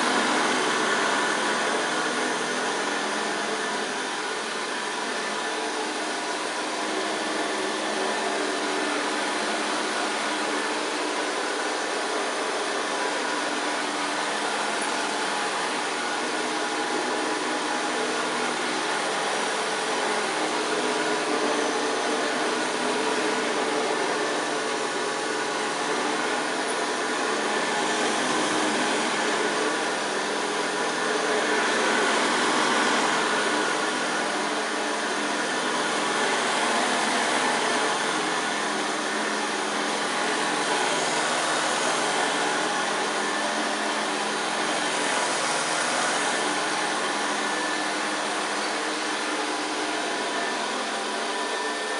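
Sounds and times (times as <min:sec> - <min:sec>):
upright vacuum cleaner running: 0:00.0 - 0:51.9.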